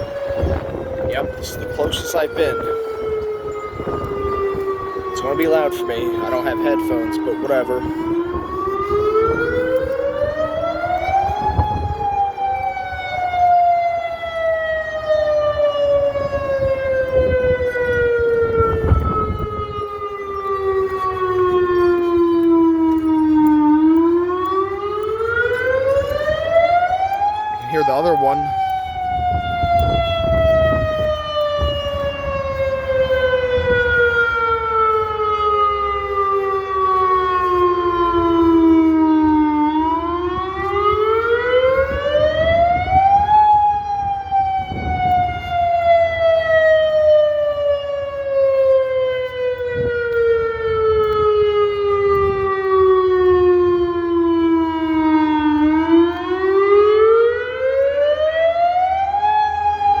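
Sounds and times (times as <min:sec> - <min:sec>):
wailing warning siren: 0:00.0 - 1:00.0.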